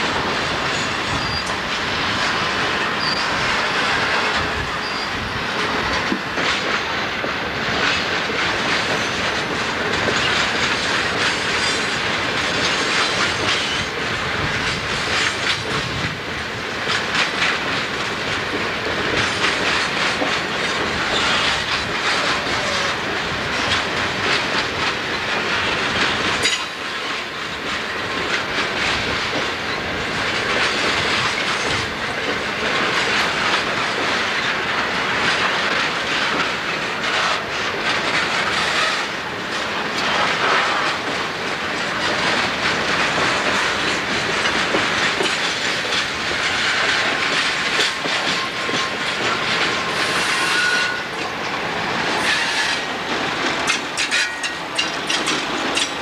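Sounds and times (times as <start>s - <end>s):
freight cars rumbling and rattling: 0.0s - 56.0s
train wheels clicking over rail joints: 0.0s - 56.0s.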